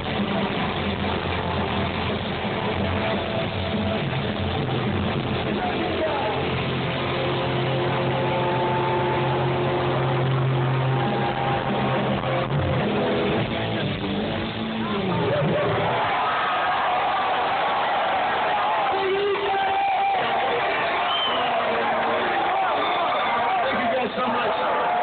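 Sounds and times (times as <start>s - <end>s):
rock band with electric guitars: 0.0s - 25.0s.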